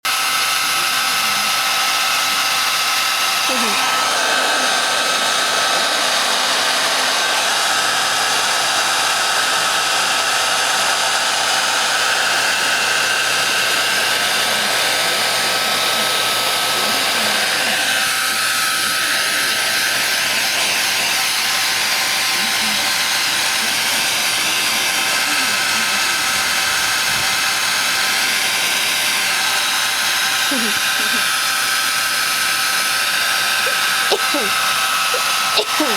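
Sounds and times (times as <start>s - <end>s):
hair dryer blowing with whine: 0.0s - 35.9s.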